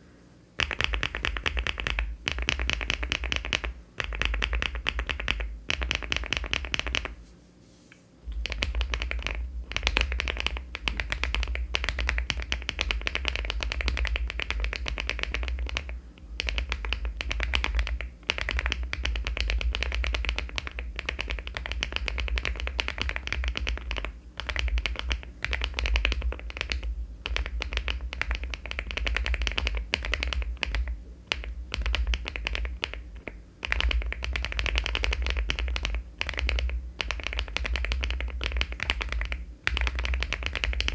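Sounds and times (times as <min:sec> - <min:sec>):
mechanical keyboard typing: 0:00.6 - 0:07.1, 0:08.4 - 0:40.9.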